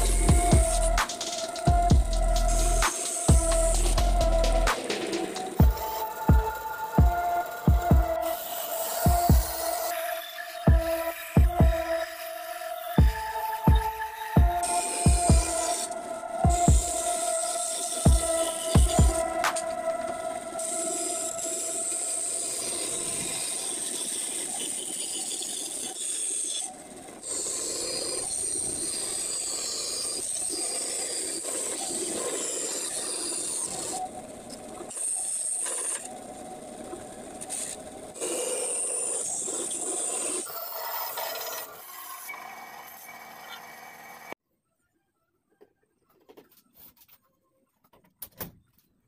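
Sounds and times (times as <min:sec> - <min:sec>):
band saw cutting wood: 0:00.0 - 0:36.2, 0:36.8 - 0:44.4.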